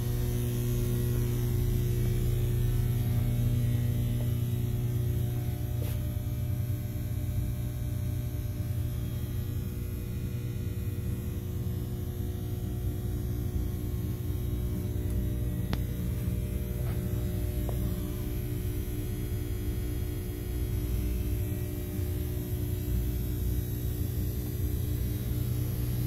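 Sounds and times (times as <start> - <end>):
engine room machinery humming: 0.0 - 26.0.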